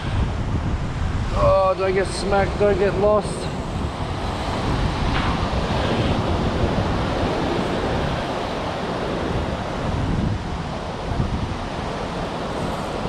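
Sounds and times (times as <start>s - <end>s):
wind buffeting microphone: 0.0s - 13.0s
surf breaking on rocks: 1.3s - 13.0s.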